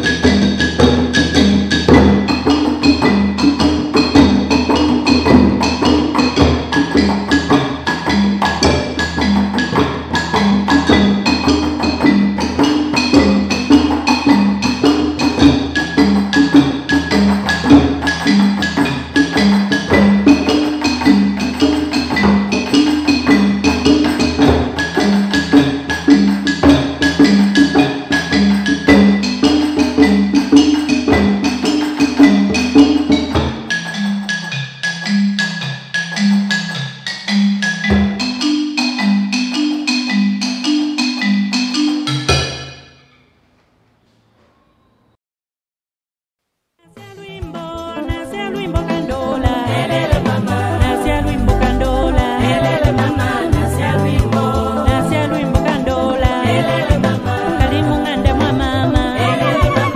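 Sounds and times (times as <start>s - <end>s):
djembe hand drumming: 0.0s - 42.8s, 47.0s - 59.9s
xylophone melody: 0.0s - 43.0s, 46.9s - 59.9s.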